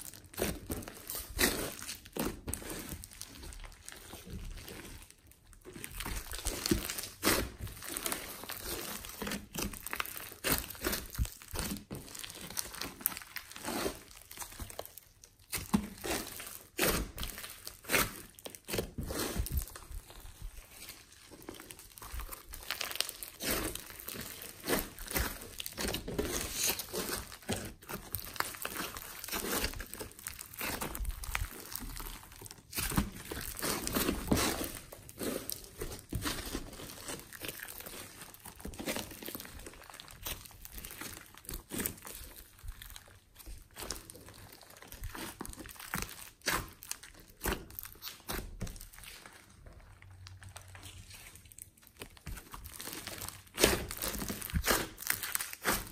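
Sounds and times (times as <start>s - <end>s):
slime crackling and popping: 0.0s - 55.9s.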